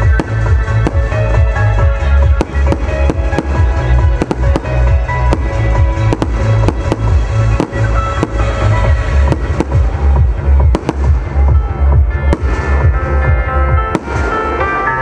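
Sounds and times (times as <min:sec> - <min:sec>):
loud music with heavy bass: 0:00.0 - 0:15.0.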